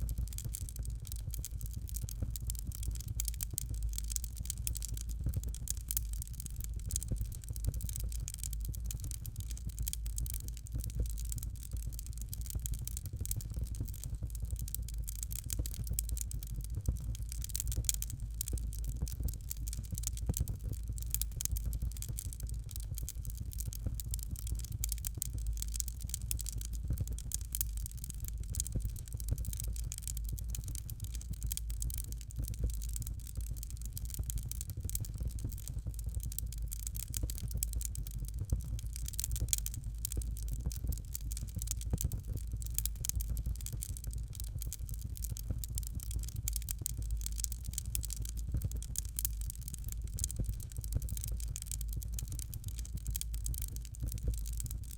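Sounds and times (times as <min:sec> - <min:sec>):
fire crackling and popping: 0:00.0 - 0:54.9
low fire rumble: 0:00.0 - 0:54.9.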